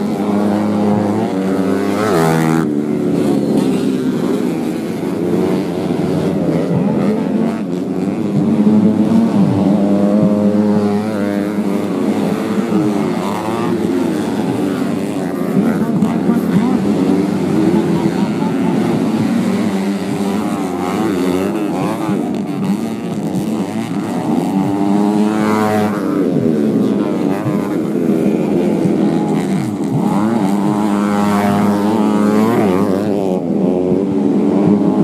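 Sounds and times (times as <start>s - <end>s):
racing motorcycle engines revving: 0.0s - 35.0s.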